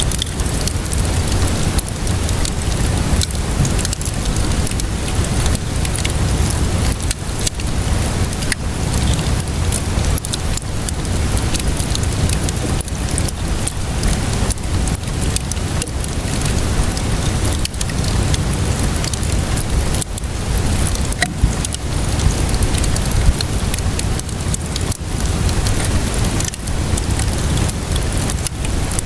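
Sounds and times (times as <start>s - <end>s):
steady rainfall: 0.0s - 29.0s
wood fire crackling and popping: 0.0s - 29.0s.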